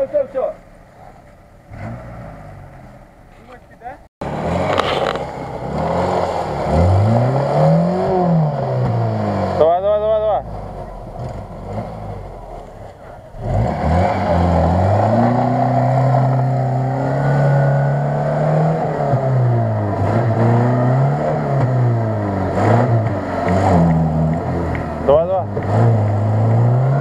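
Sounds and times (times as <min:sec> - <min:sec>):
vehicle engine revving under load: 0:00.9 - 0:03.2, 0:04.2 - 0:27.0.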